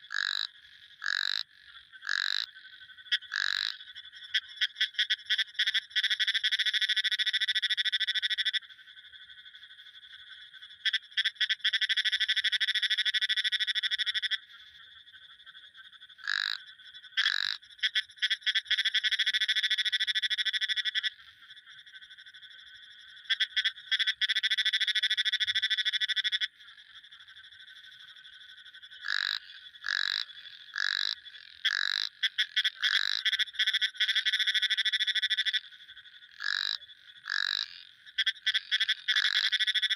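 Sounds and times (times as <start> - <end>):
frog croaks: 0.0 - 39.9
frogs trilling: 0.0 - 39.9.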